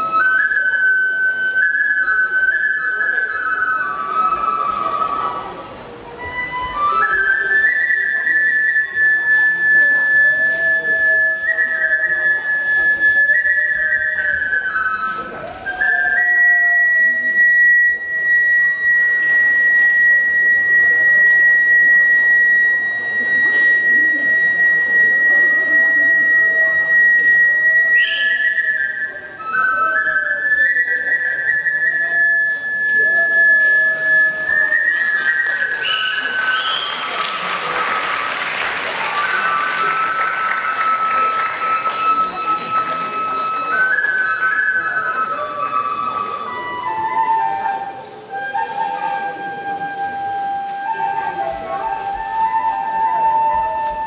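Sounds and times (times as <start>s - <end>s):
bamboo flute playing high: 0.0s - 54.0s.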